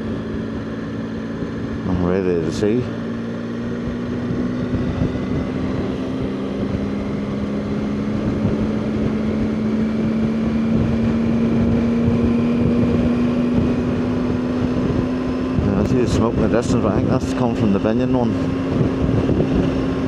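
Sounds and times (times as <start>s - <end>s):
motorcycle engine running: 0.0s - 20.0s
wind buffeting microphone: 3.1s - 20.0s.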